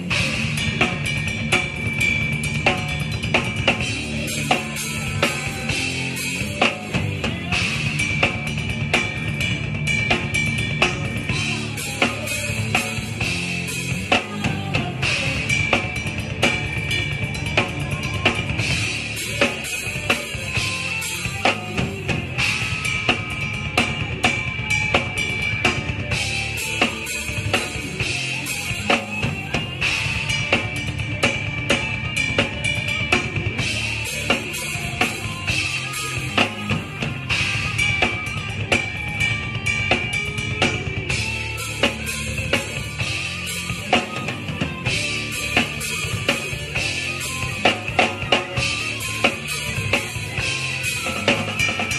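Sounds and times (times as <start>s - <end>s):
drum kit playing: 0.0s - 51.9s.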